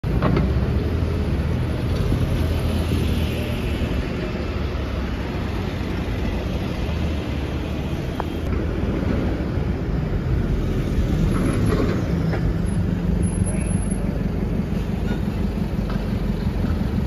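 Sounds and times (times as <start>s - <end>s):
bus passing: 0.0s - 17.0s
street traffic rumble: 0.0s - 17.0s.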